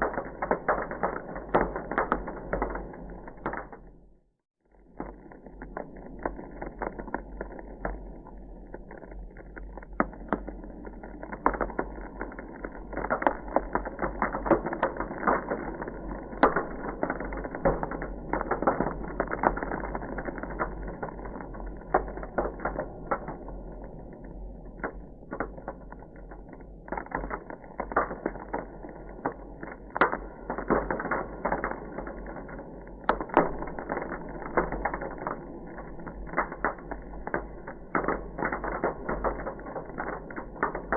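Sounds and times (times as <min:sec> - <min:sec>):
ice crackling and popping: 0:00.0 - 0:40.9.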